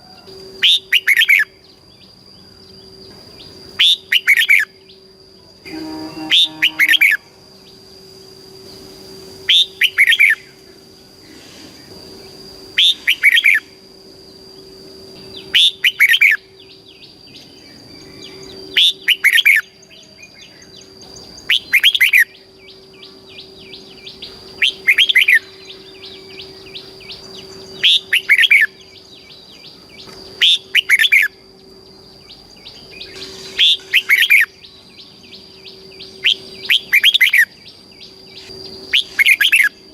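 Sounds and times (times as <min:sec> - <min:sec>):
bird singing sweeping phrases: 0:00.0 - 0:39.9.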